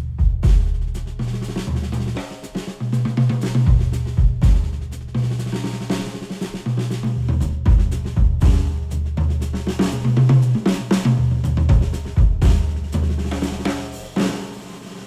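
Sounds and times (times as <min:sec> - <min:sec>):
instrumental music with drums and bass: 0:00.0 - 0:15.0.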